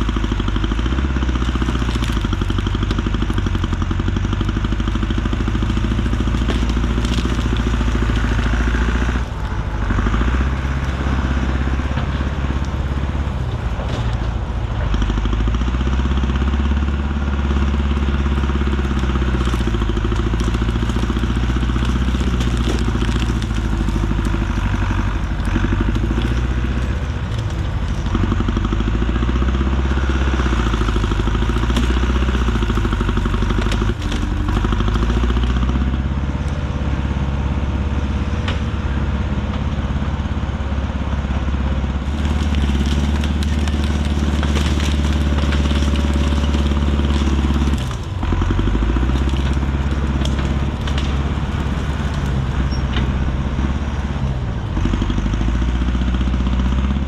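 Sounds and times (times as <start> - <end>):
brush crackling and breaking: 0.0 - 36.7, 41.0 - 57.0
heavy equipment engine under load: 0.0 - 57.0.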